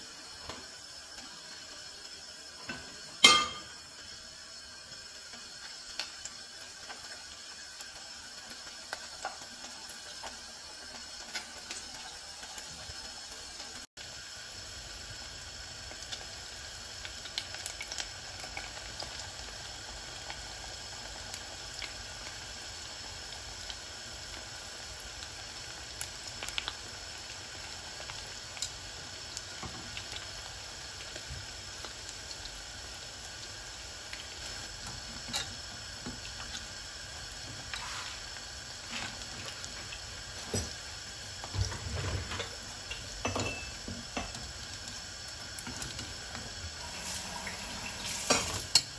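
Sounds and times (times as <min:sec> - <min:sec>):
dough sizzling in hot oil: 0:00.0 - 0:48.9
oil crackles and pops: 0:03.9 - 0:48.9.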